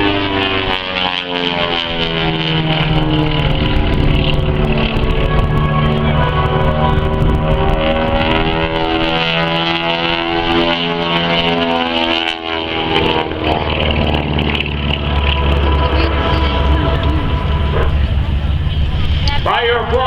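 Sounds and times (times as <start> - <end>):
radial aircraft engines droning: 0.0 - 20.0.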